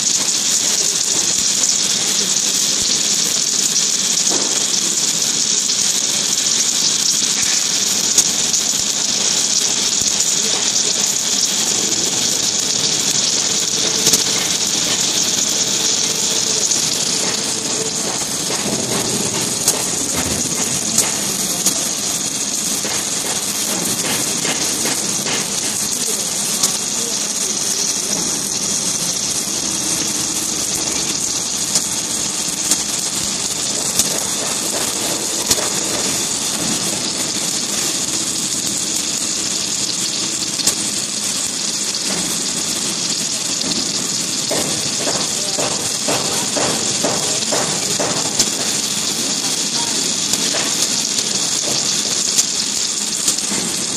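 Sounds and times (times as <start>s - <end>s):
welding hiss: 0.0s - 53.9s.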